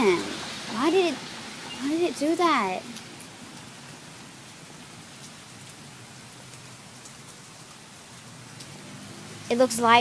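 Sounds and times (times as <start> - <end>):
raindrop ticks: 0.0 - 3.7, 5.0 - 10.0
rain on a hard surface: 0.0 - 10.0.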